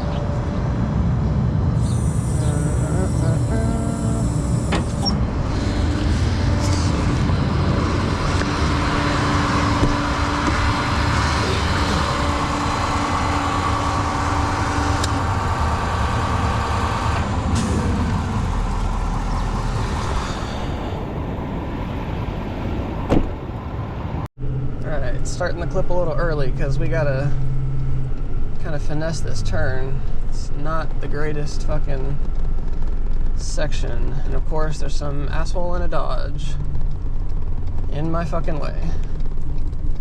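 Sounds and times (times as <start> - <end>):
truck engine running: 0.0 - 21.5, 23.3 - 40.0
road noise: 0.0 - 40.0.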